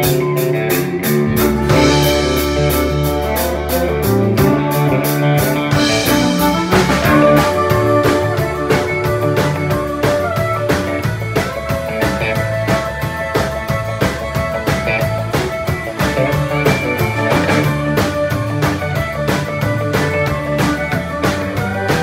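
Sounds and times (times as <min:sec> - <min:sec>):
country rock band playing: 0:00.0 - 0:22.0.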